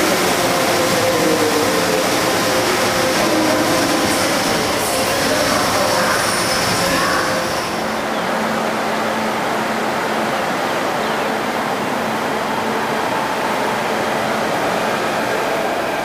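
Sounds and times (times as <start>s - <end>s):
steady rushing noise: 0.0s - 16.0s
train track noise: 0.0s - 16.0s.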